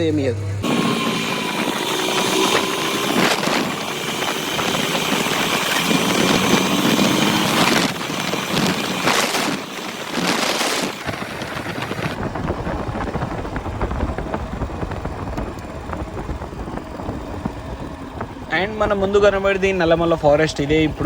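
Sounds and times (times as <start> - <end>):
motorcycle engine running: 0.5 - 21.0.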